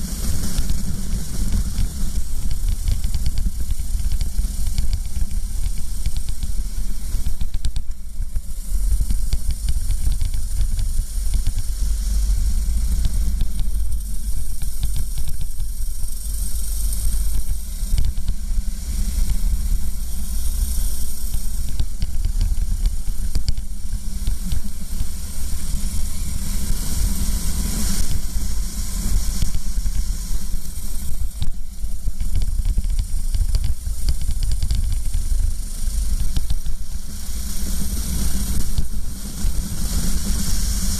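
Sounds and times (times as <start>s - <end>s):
kart engine running: 0.0s - 40.9s
steady hiss: 0.0s - 40.9s
wind rumble on microphone: 0.0s - 40.9s.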